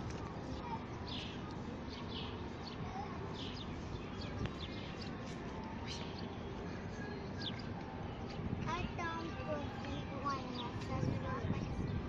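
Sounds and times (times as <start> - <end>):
outdoor background rush: 0.0 - 12.0
birds chirping: 0.4 - 12.0.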